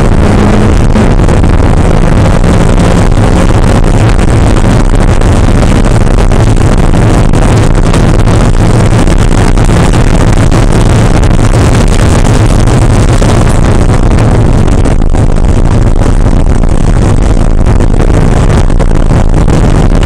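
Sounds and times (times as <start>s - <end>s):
car engine running hard: 0.0s - 20.0s
wind and road noise: 0.0s - 20.0s.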